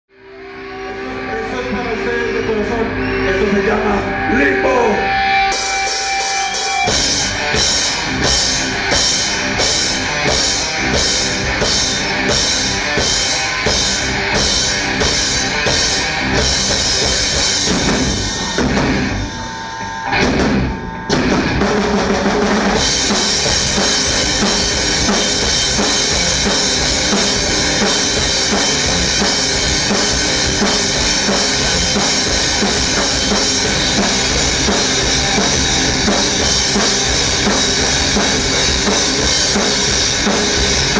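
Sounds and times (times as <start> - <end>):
metal band playing live: 0.1 - 40.9.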